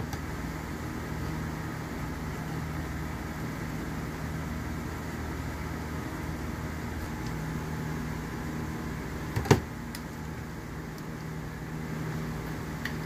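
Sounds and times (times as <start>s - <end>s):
ventilation fan hum: 0.0s - 13.0s.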